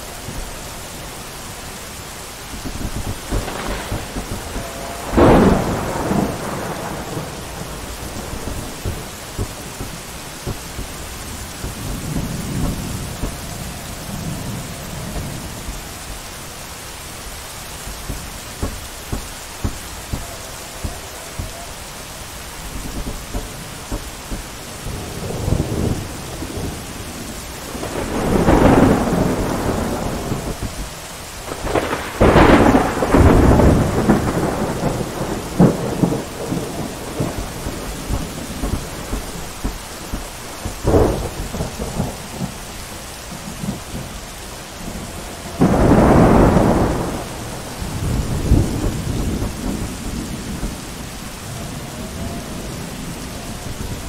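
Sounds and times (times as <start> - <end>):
steady rain: 0.0 - 54.0
thunder rolling: 0.0 - 54.0
sharp crack of thunder: 2.5 - 16.3, 22.6 - 54.0.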